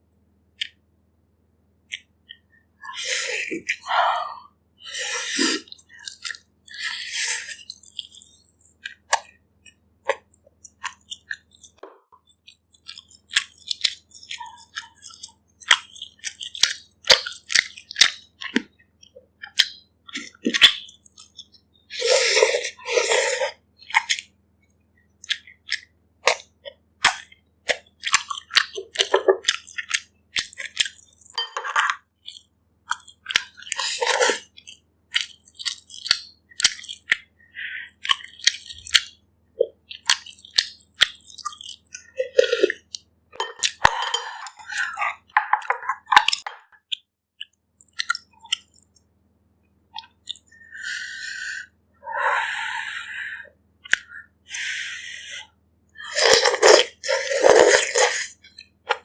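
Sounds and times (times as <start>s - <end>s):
person chewing and biting: 5.1s - 37.3s, 37.9s - 49.1s, 50.0s - 51.3s, 56.0s - 59.0s
mouth clicks and smacks: 5.2s - 49.2s, 49.9s - 59.0s.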